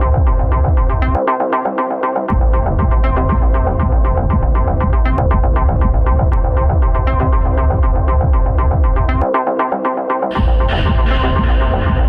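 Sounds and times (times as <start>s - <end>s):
electronic dance music: 2.3s - 12.0s.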